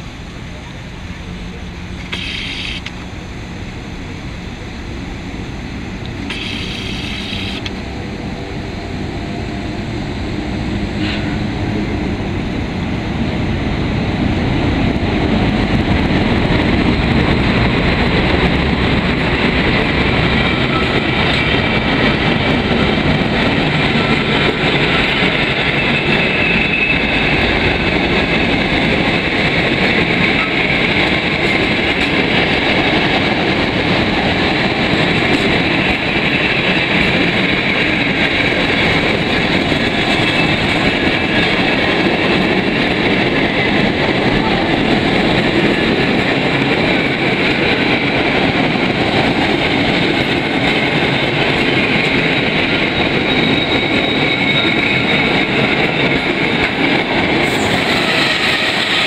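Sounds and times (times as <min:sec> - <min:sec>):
train rumbling past on rails: 0:00.0 - 0:59.0.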